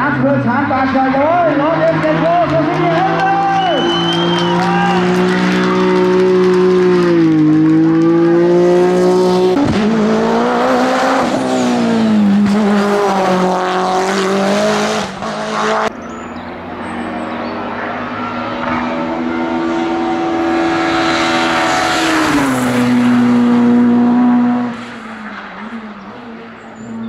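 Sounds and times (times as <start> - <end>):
race car engines at high revs: 0.0 - 27.0.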